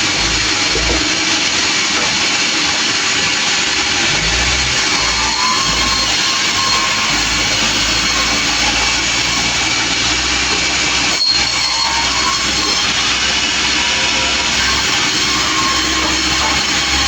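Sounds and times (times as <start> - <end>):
sawmill saw and engine: 0.0 - 17.0.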